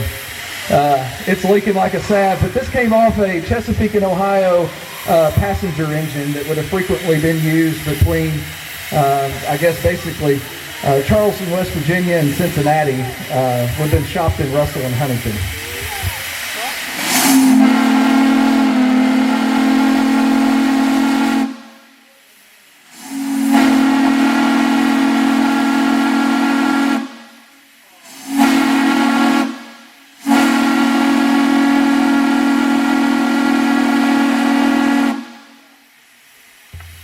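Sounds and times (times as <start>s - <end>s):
steam whistle blasts: 4.0s - 22.2s, 22.9s - 35.9s.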